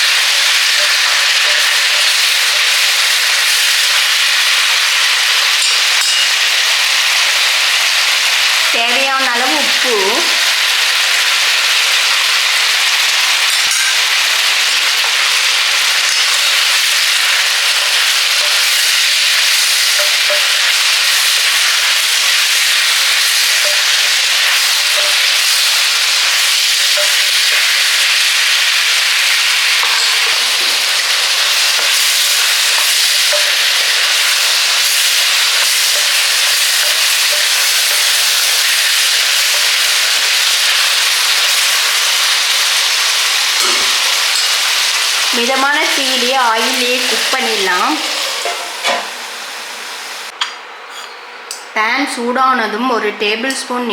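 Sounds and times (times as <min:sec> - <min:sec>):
vegetables sizzling in hot oil: 0:00.0 - 0:50.4.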